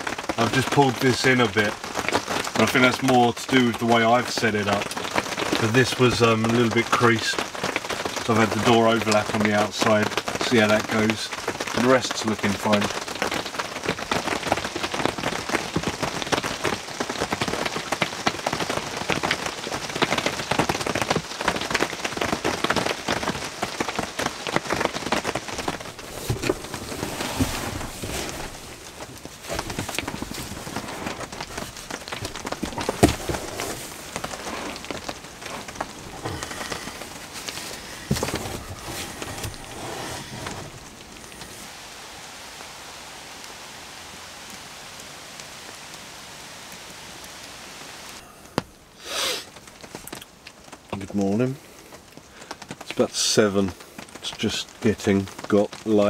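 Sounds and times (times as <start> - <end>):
heavy rain on tent roof: 0.0 - 56.0.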